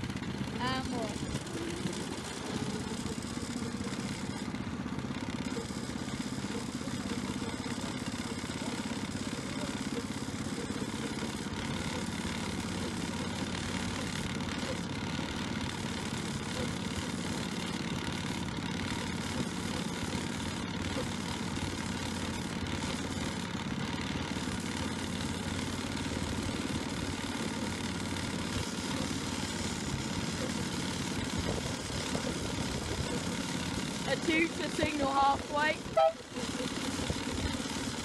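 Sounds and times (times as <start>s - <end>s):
small locomotive engine running: 0.0s - 38.0s.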